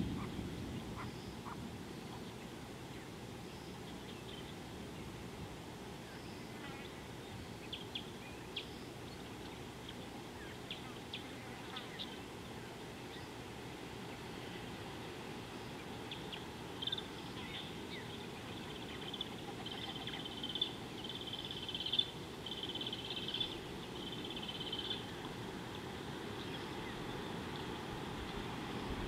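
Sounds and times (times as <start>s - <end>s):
low outdoor hiss: 0.0s - 29.0s.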